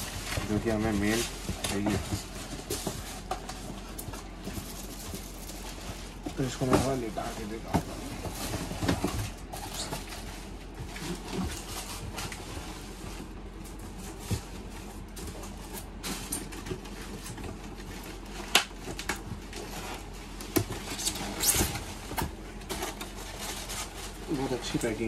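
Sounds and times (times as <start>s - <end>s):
cardboard rustling and scraping: 0.0s - 25.0s
steady low hum: 0.0s - 25.0s.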